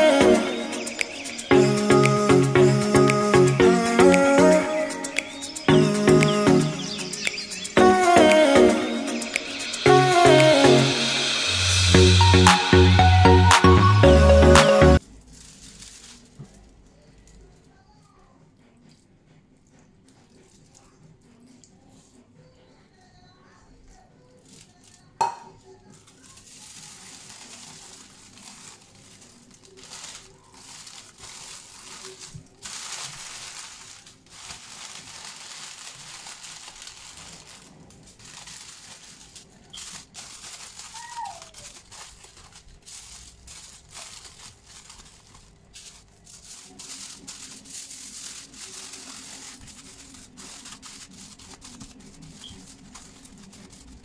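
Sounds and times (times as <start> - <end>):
paper and foil crinkling: 0.0 - 12.3, 15.0 - 18.3, 19.7 - 54.0.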